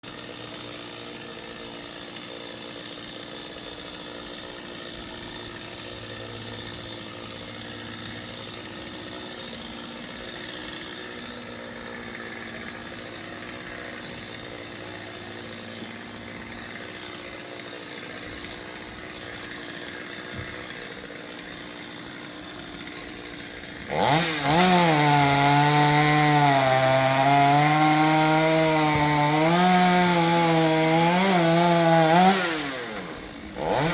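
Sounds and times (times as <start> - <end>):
chainsaw revving: 0.0 - 33.9.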